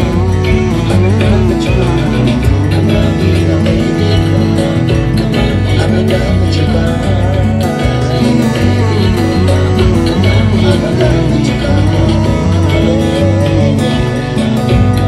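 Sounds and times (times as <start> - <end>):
amplified backing music: 0.0 - 15.0
man singing into a microphone: 0.0 - 15.0.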